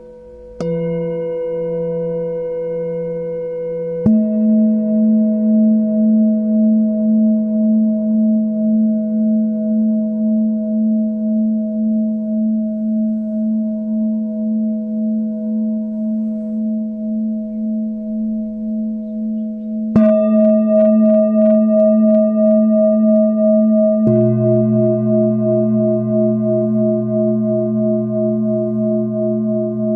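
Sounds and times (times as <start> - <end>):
singing bowl ringing: 0.0 - 29.9
singing bowl struck: 0.0 - 29.9.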